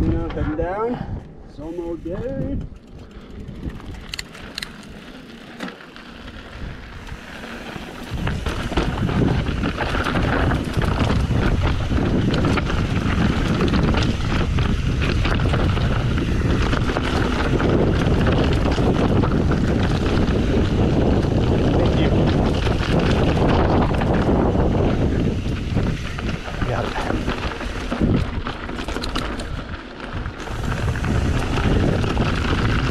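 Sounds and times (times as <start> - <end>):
wind rushing over microphone: 0.0 - 5.0, 6.3 - 32.9
bike rattling over rocks: 1.7 - 32.9.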